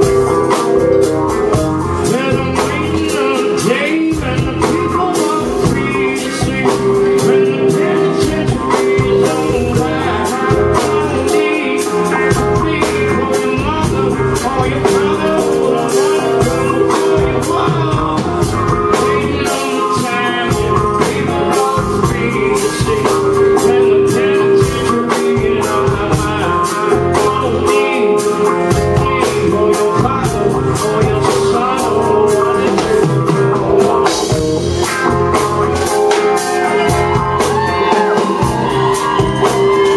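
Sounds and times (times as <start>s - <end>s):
live rock band playing: 0.0s - 39.9s
man singing lead vocal: 0.0s - 39.9s.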